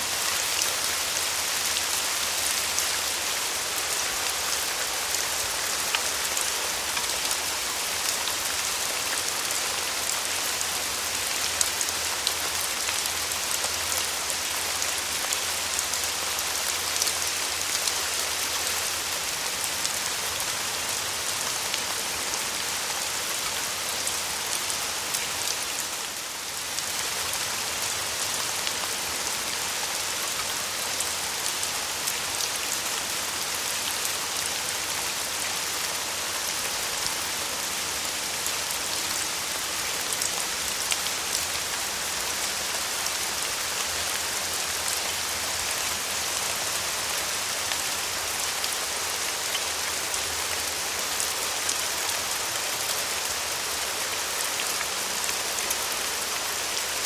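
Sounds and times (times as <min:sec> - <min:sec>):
rain drops ticking on a surface: 0:00.0 - 0:57.0.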